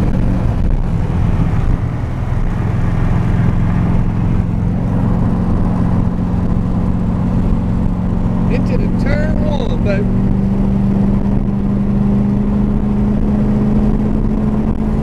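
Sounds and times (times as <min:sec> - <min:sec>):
car engine hum: 0:00.0 - 0:15.0
tyre and road rumble: 0:00.0 - 0:15.0.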